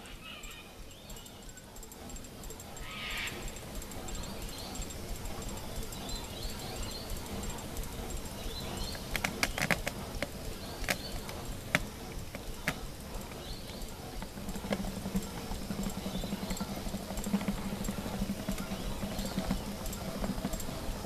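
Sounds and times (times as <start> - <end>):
low hum: 0.0 - 21.0
steam engine clattering: 0.0 - 21.0
sharp clicks: 0.4 - 21.0.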